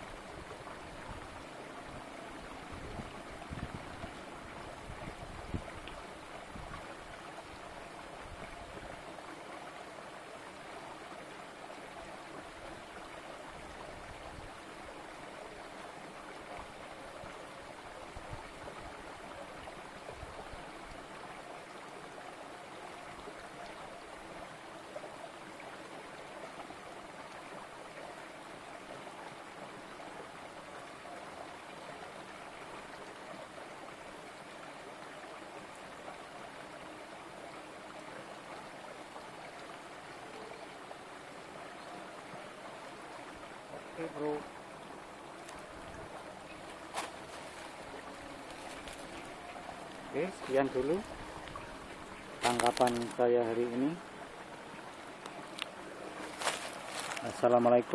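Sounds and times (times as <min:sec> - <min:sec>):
stream burbling over stones: 0:00.0 - 0:57.9.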